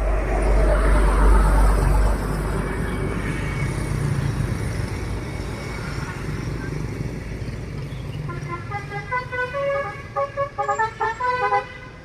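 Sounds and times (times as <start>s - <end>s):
heavy vehicle engine rumbling: 0.0s - 11.2s.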